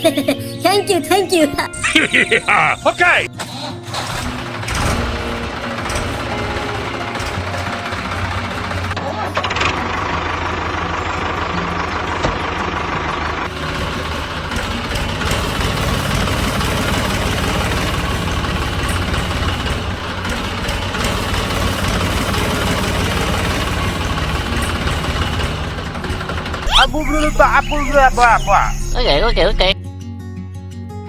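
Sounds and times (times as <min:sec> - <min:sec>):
diesel tractor engine idling: 0:01.8 - 0:29.8.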